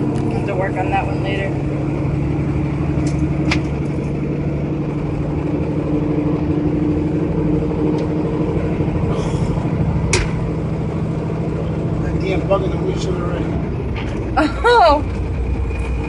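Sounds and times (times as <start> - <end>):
diesel truck engine humming: 0.0 - 16.0.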